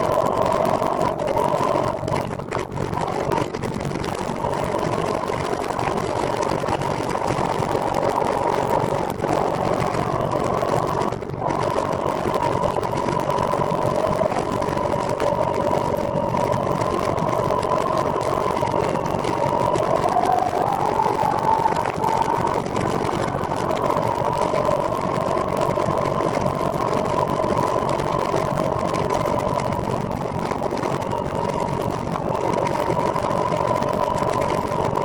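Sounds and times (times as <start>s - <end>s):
rushing noise: 0.0s - 35.0s
trike whirring hum: 0.0s - 35.0s.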